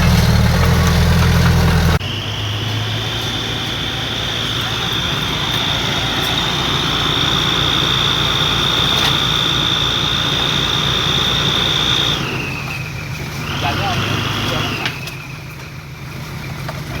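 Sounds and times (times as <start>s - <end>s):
high whine: 0.0s - 15.4s
heavy diesel engine running: 0.0s - 17.0s.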